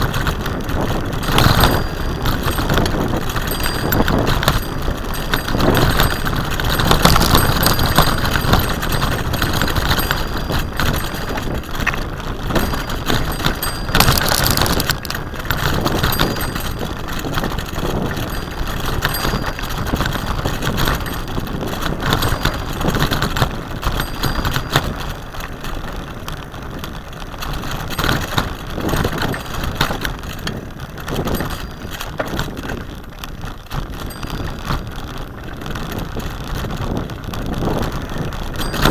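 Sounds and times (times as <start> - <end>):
bicycle tyres rushing on dirt: 0.0 - 38.9
bike rattling over bumps: 0.0 - 38.9.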